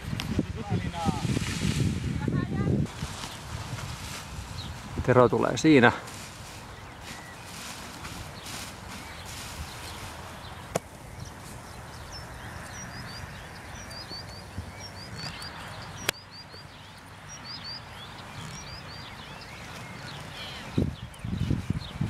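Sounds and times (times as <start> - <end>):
birds chirping: 0.0 - 1.5, 2.2 - 22.0
outdoor background noise: 0.0 - 22.0.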